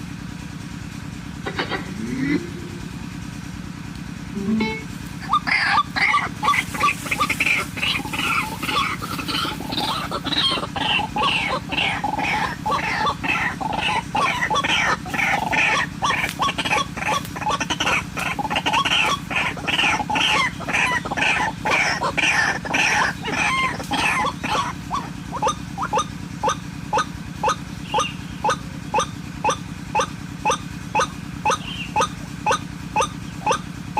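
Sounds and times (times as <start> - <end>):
steady low hum: 0.0 - 33.9
waterhen calling harsh notes: 4.4 - 33.7.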